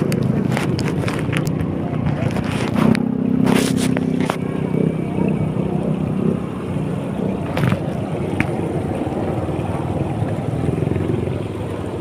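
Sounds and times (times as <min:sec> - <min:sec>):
low even rumble: 0:00.0 - 0:12.0.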